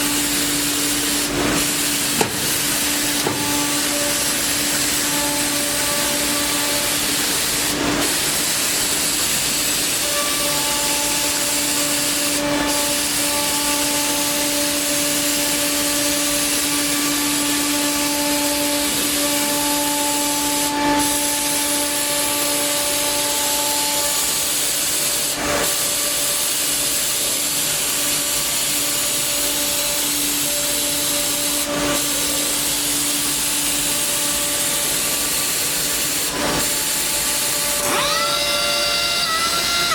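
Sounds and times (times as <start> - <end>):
dust extraction hiss: 0.0 - 39.9
woodworking machine whining: 0.0 - 39.9.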